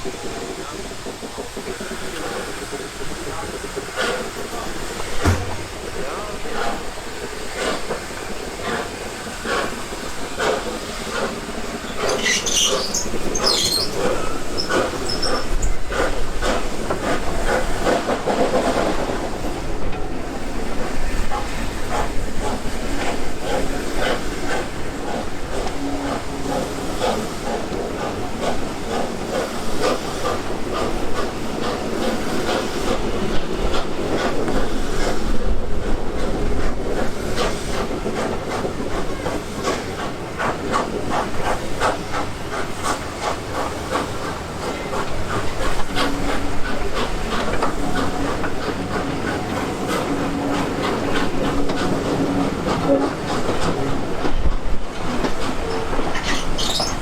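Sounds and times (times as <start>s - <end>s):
steam hissing: 0.0s - 57.0s
train wheels clattering on rails: 0.0s - 57.0s.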